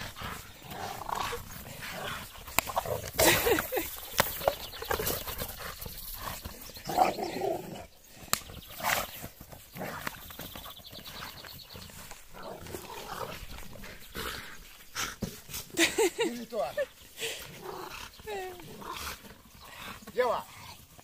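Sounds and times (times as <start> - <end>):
dogs playing noisily: 0.0 - 21.0.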